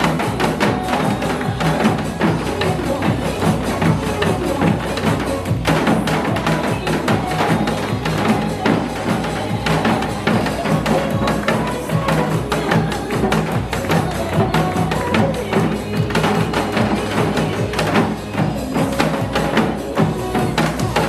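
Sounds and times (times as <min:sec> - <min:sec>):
recorded song backing track: 0:00.0 - 0:21.0.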